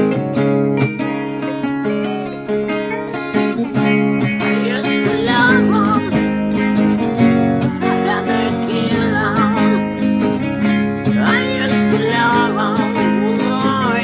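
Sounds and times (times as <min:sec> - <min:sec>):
acoustic guitar strumming chords: 0:00.0 - 0:14.0
lead guitar solo: 0:00.0 - 0:14.0.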